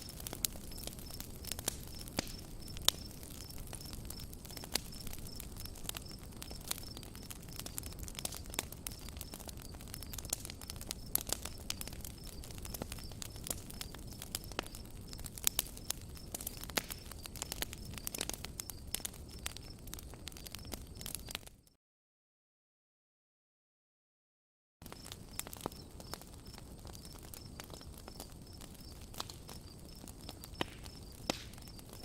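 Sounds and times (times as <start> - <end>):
cricket chirping: 0.0 - 21.4, 24.9 - 32.0
campfire crackling: 0.0 - 21.7, 24.8 - 32.0.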